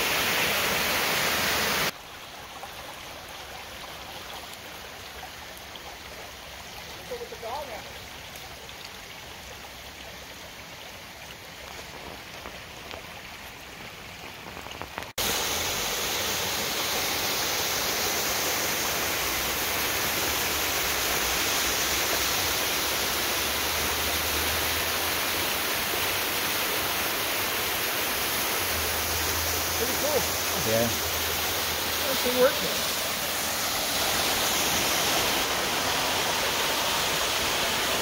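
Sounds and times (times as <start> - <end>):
creek water running over stones: 0.0 - 38.0
waterfall rushing into pool: 0.0 - 38.0.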